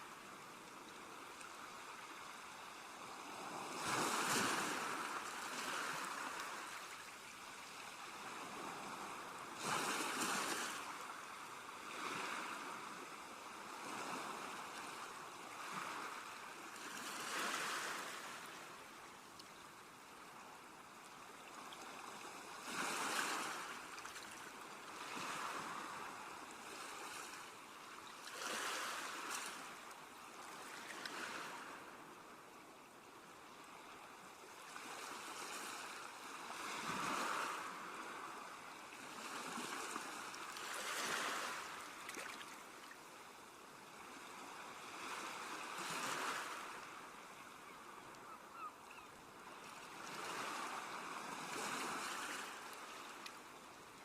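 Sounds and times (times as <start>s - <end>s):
sea waves washing on shore: 0.0s - 32.6s, 33.6s - 54.0s.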